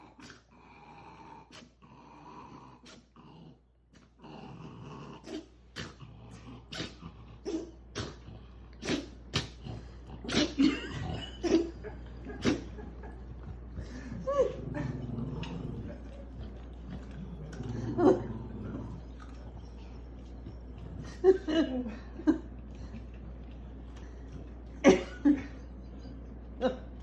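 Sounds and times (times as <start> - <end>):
dog growling low: 0.0 - 23.2.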